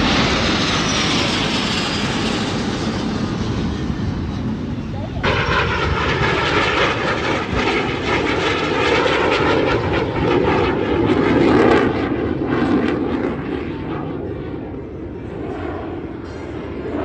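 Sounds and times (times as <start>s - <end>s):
jet aircraft engine roar: 0.0s - 17.0s.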